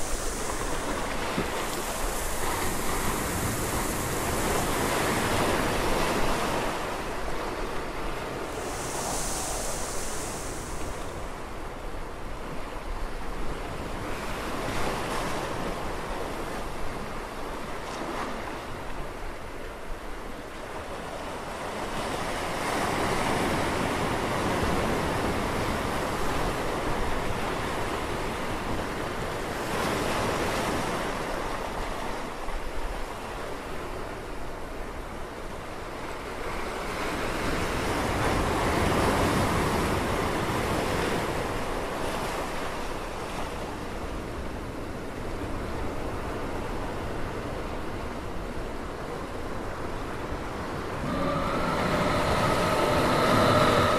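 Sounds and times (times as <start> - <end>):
ocean waves breaking on shore: 0.0 - 53.9.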